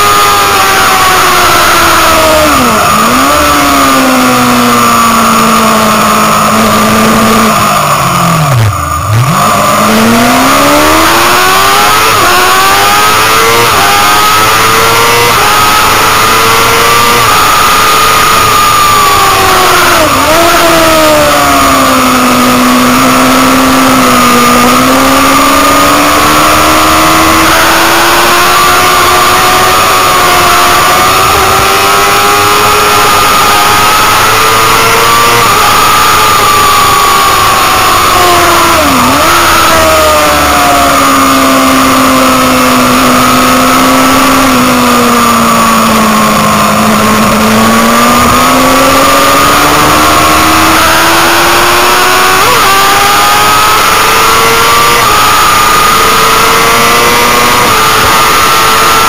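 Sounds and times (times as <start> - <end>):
motorcycle engine at speed: 0.0 - 59.0.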